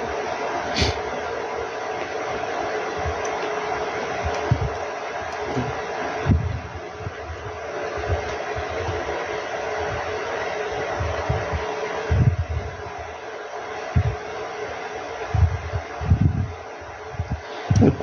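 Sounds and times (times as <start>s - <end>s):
steady airy hiss: 0.0s - 18.0s.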